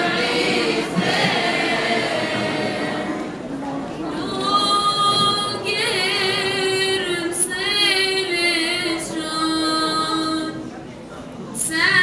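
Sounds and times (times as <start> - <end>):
children's choir singing: 0.0 - 10.6.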